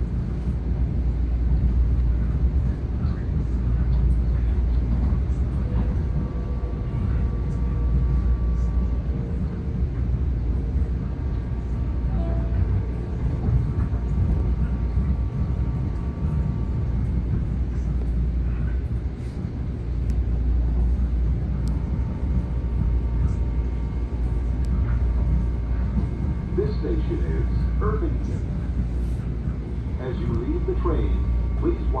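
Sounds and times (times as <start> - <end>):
train wheels rumbling on rails: 0.0 - 32.0
faint steady tones: 1.2 - 32.0.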